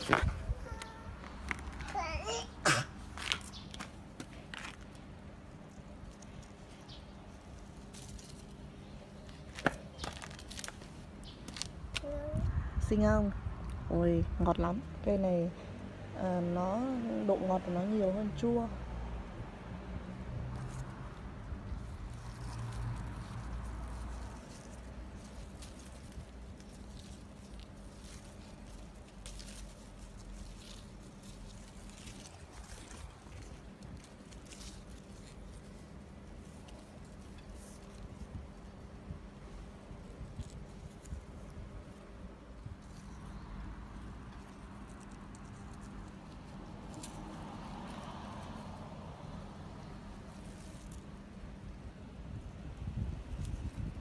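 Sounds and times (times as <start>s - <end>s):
leaves rustling and crackling: 0.0s - 15.5s, 16.2s - 54.0s.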